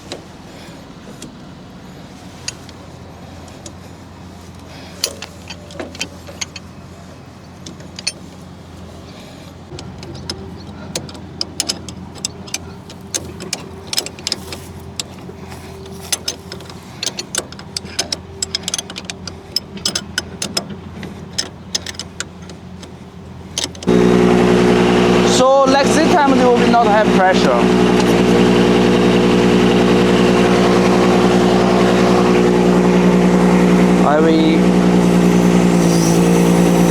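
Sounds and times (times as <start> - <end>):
excavator engine humming: 0.0 - 36.9.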